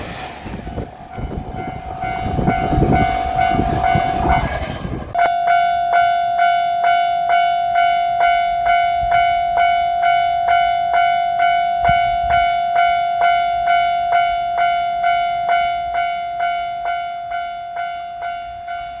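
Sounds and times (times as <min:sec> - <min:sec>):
railroad crossing warning bell: 0:00.0 - 0:19.0.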